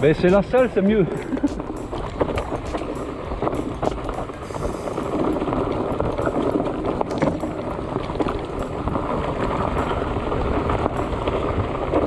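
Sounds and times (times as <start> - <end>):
bike knocks and rattles: 0.0 - 12.0
bike tyre rumble on dirt: 0.0 - 12.0
wind on microphone: 0.0 - 12.0.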